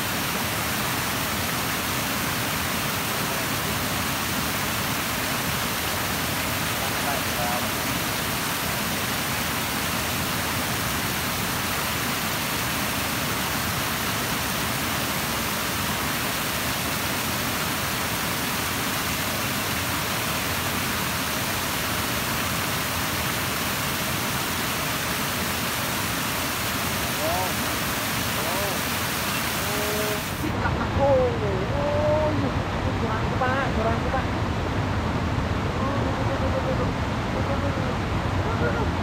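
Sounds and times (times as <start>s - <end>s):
rushing water hiss: 0.0s - 32.7s.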